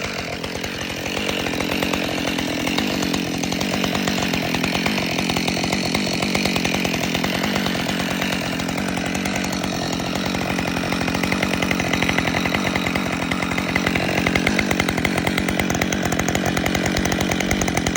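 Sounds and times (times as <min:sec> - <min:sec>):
chainsaw cutting wood: 0:00.0 - 0:17.9.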